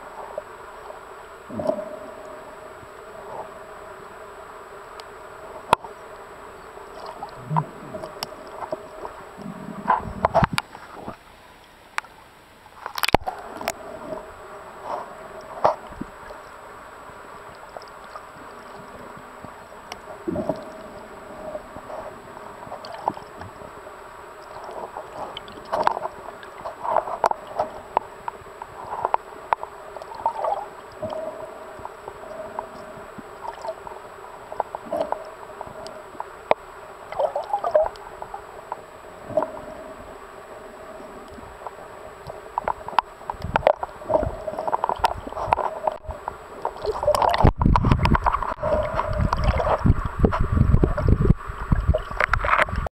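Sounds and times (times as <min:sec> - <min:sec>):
muffled underwater hum: 0:00.0 - 0:52.9
underwater gurgles: 0:00.0 - 0:52.9.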